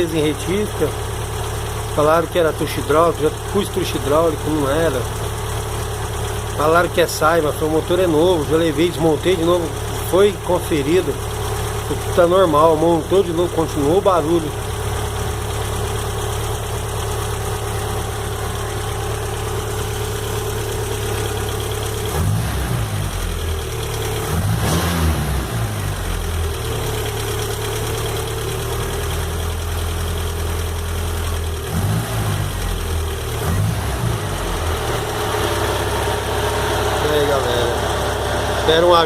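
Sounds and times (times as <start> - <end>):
car engine idling and revving: 0.0 - 39.0
engine ticking: 0.0 - 39.0.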